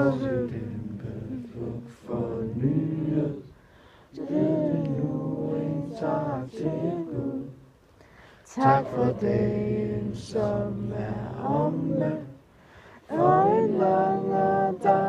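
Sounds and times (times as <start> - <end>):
group singing unaccompanied: 0.0 - 7.8, 8.4 - 15.0.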